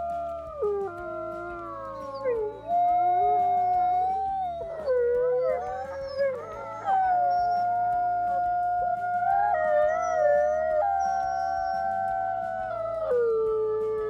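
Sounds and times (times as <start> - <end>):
wolves howling in chorus: 0.0 - 14.0.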